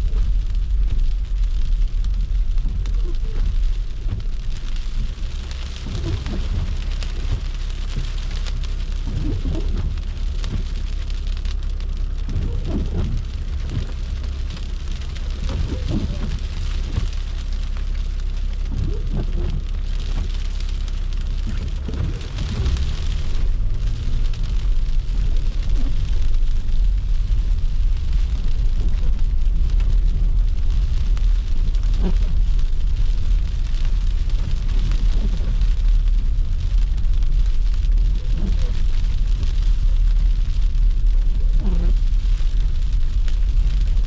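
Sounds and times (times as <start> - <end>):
car driving on snowy road: 0.0 - 44.0
rain-like hiss: 0.0 - 44.0.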